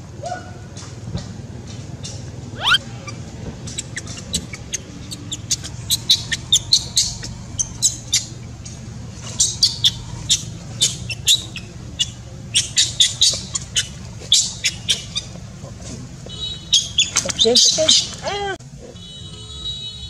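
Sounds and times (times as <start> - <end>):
low steady hum: 0.0 - 19.5
small birds chirping: 2.0 - 18.4.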